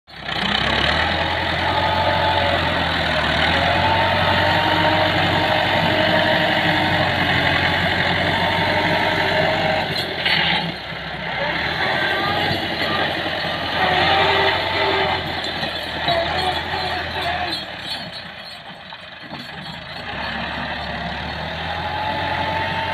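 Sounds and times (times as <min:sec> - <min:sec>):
tractor diesel engine running: 0:00.1 - 0:22.9.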